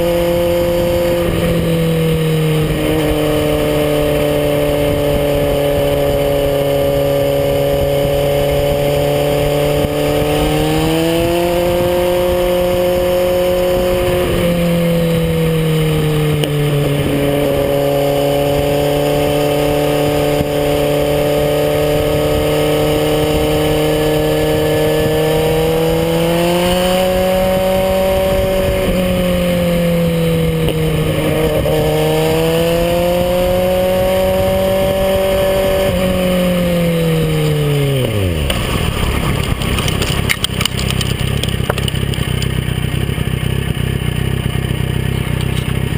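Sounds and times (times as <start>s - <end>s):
rough rushing noise: 0.0s - 43.3s
motorcycle engine running: 0.0s - 45.9s.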